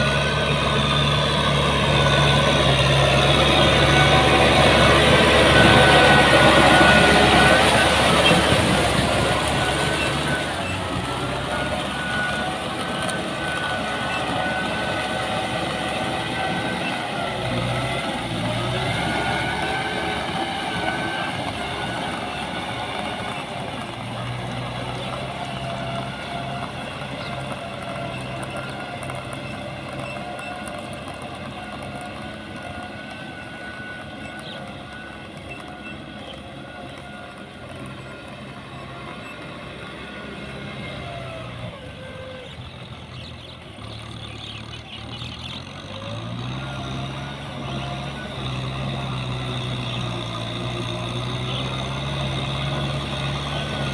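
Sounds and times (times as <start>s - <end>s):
farm machinery engine running: 0.0s - 53.9s.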